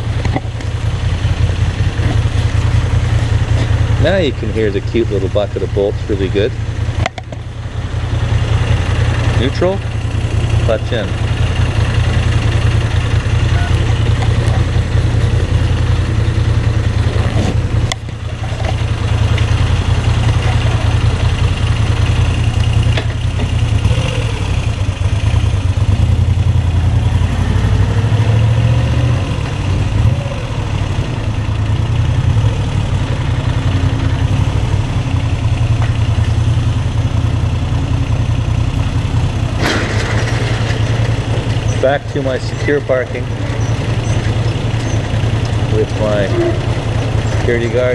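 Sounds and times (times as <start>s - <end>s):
motorcycle engine idling: 0.0s - 27.2s, 29.8s - 47.9s.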